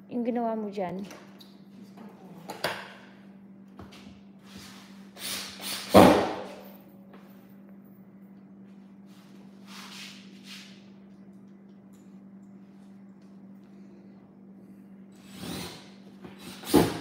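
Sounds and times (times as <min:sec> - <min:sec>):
low steady hum: 0:00.0 - 0:05.3, 0:05.9 - 0:16.5.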